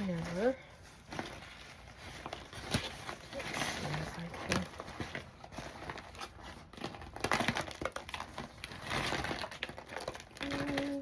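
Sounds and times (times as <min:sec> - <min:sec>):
yarn bundle crinkling and rustling: 0:00.0 - 0:11.0.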